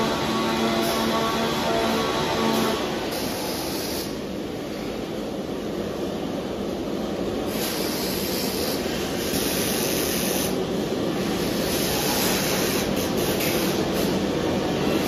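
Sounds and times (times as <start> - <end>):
factory assembly line din: 0.0 - 15.0.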